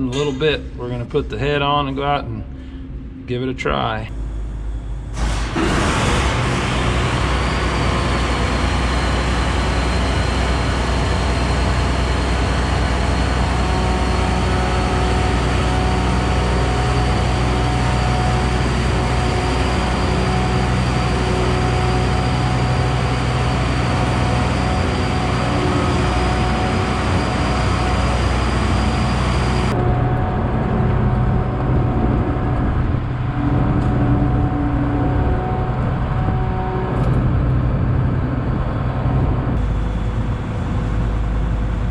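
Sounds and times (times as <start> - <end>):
thin high whine: 0.0 - 41.9
diesel engine running: 4.0 - 41.9.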